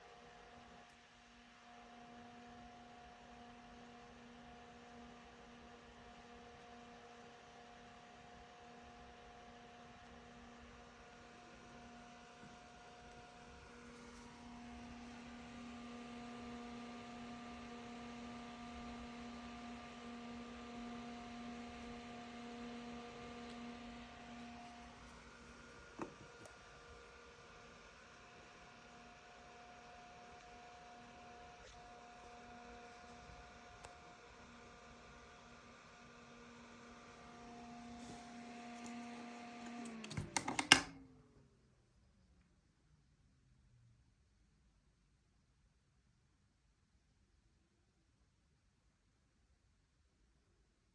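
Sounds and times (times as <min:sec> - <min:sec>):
computer fan whirring: 0:00.0 - 0:41.4.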